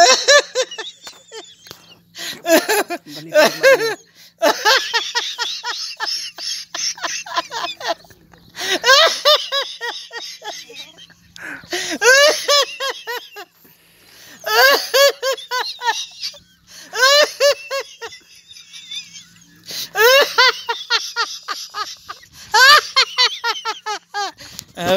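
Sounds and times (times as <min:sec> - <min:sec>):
man laughing loudly: 0:00.0 - 0:24.9.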